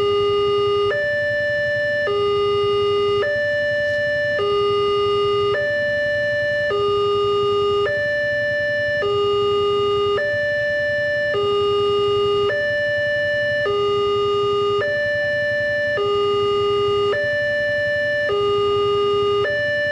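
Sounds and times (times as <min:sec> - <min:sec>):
two-tone level crossing alarm: 0:00.0 - 0:19.9.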